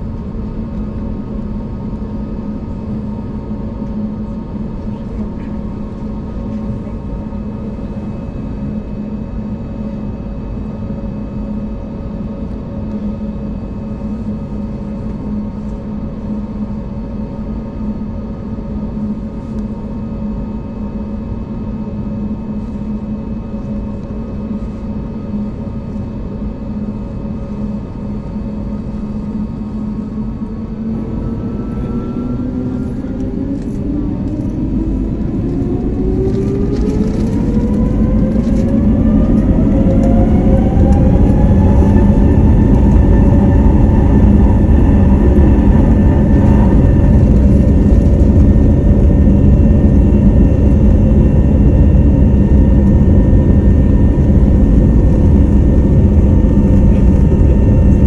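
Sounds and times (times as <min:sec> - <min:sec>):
deep engine rumble: 0:00.0 - 0:58.0
jet engine whine: 0:00.0 - 0:58.0.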